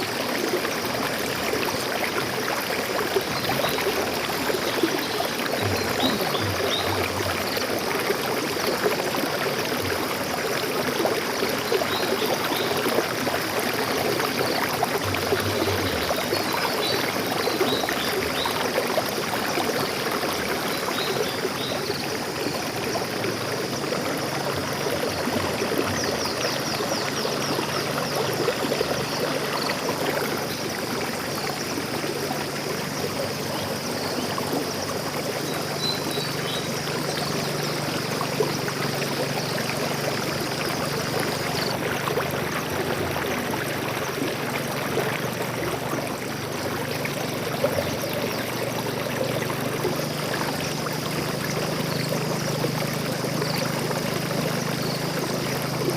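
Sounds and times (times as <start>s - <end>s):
stream flowing and trickling: 0.0s - 55.9s.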